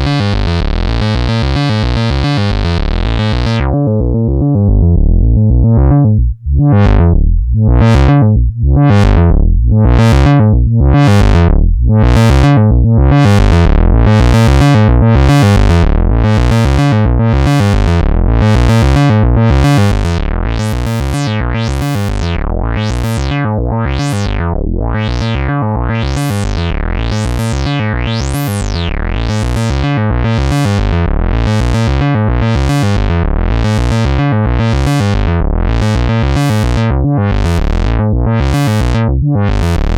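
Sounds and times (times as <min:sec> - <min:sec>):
low synth drone: 0:00.0 - 0:39.9
synthesizer filter sweep: 0:00.0 - 0:39.9.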